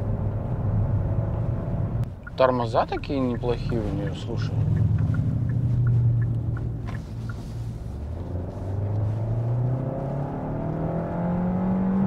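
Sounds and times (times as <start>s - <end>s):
car engine drone accelerating: 0.0s - 12.0s.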